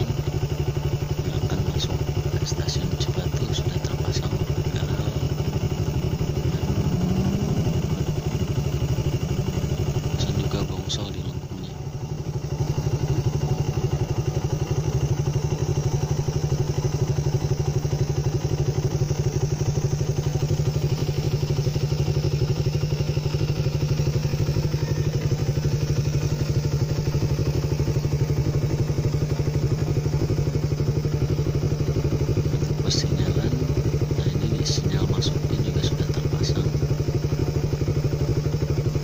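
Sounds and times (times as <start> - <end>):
small motorcycle engine running: 0.0 - 39.0.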